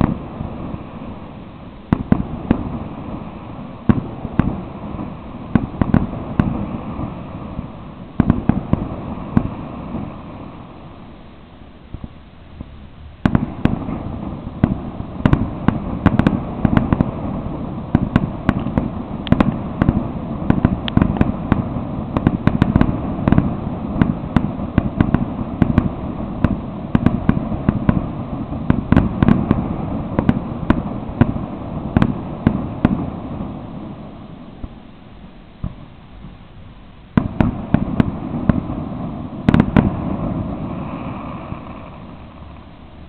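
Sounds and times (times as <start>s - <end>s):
fireworks bursting and banging: 0.0s - 43.0s.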